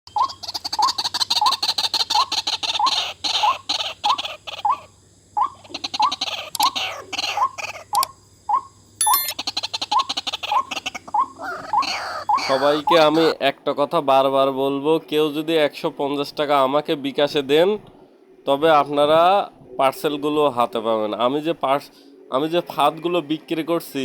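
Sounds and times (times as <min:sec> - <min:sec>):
waterhen calling: 0:00.1 - 0:13.6, 0:14.2 - 0:23.0.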